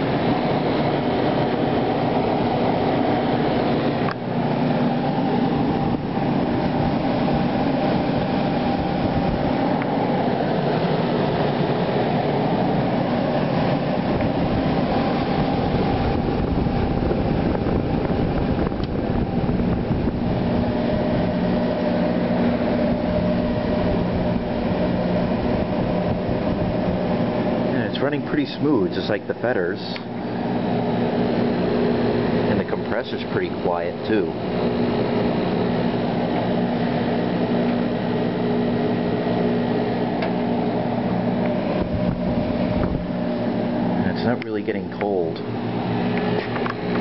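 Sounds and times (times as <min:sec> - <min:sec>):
air conditioner fan rush: 0:00.0 - 0:47.0
compressor hum: 0:00.0 - 0:47.0.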